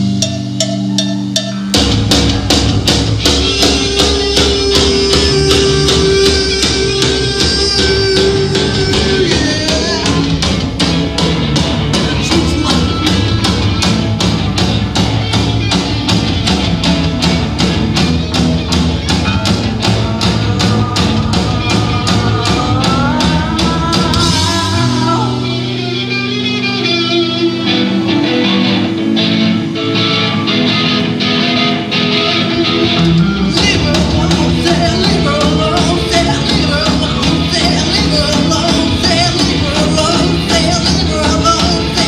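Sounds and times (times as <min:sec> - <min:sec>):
drum beat: 0:00.0 - 0:25.3, 0:32.9 - 0:42.0
guitar chords ringing: 0:00.0 - 0:42.0
rock band playing live: 0:00.0 - 0:42.0.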